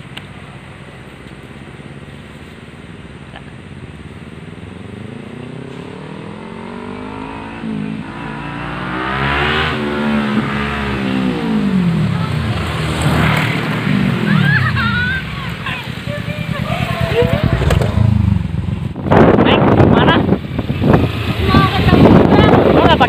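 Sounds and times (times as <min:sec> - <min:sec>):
motorcycle engine revving: 0:03.4 - 0:23.0.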